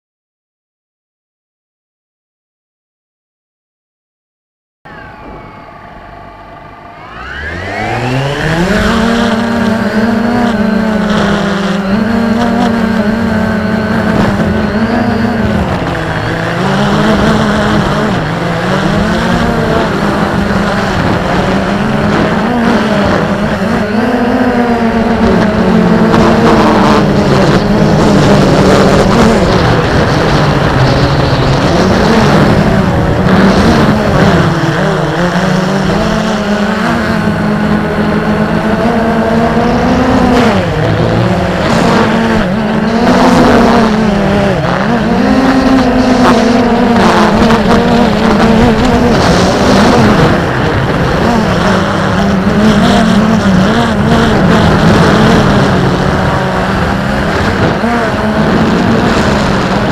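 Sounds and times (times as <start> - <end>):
drone propellers buzzing: 4.9 - 59.9
wind noise: 4.9 - 59.9.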